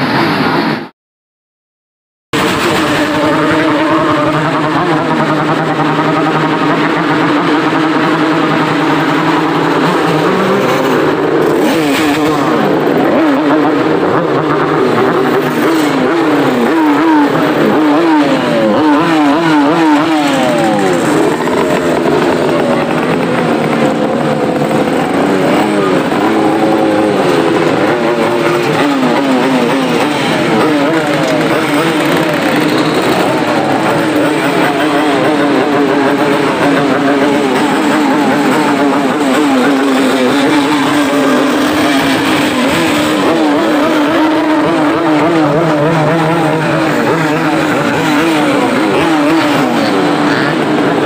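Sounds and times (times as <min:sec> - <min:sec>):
motorcycle engine revving: 0:02.4 - 0:51.0
two-stroke motorcycle engines running: 0:02.4 - 0:51.0.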